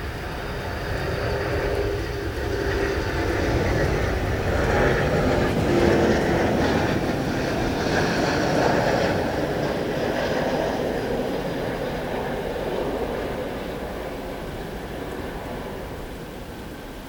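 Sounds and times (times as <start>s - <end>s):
airliner engines rumbling: 0.0s - 17.0s.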